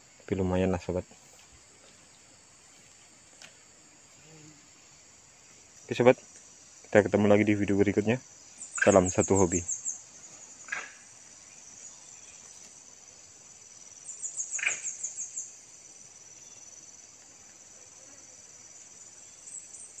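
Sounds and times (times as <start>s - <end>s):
insects chirping drone: 0.0s - 20.0s
pulsed insect trill: 0.0s - 20.0s.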